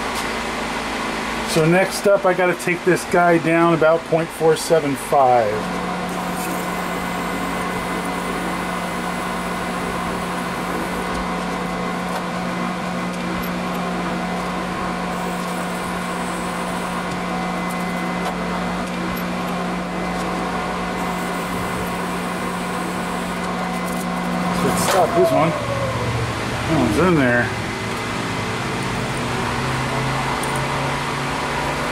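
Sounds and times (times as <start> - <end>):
motor humming: 5.6 - 31.9.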